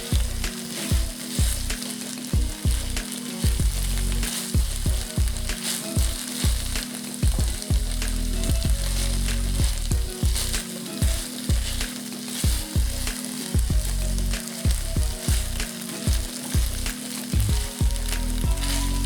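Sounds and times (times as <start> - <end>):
sausages sizzling in a pan: 0.0 - 19.0.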